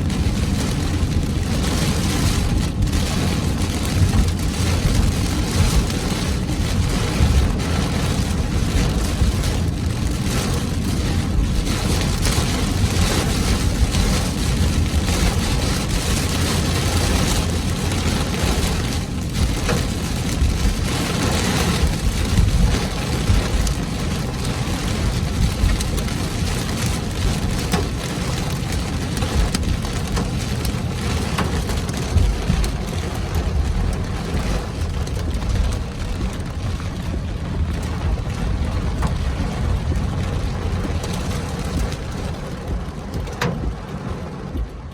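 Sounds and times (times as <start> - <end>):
heavy rain on car roof: 0.0 - 44.9
low rumble: 0.0 - 44.9.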